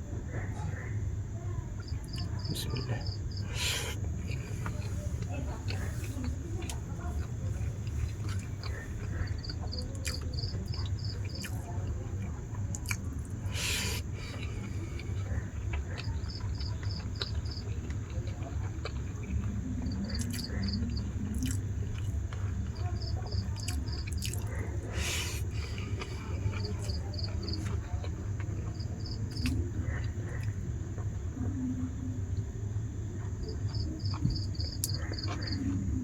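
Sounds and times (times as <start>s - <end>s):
insects chirping: 0.0s - 36.0s
steady low hum: 0.0s - 36.0s
person chewing food: 1.9s - 31.2s, 33.5s - 36.0s.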